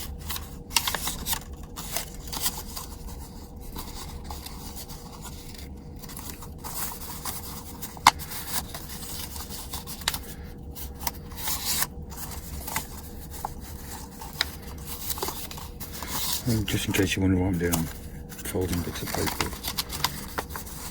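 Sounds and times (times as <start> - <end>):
paper being folded and creased: 0.0 - 20.9.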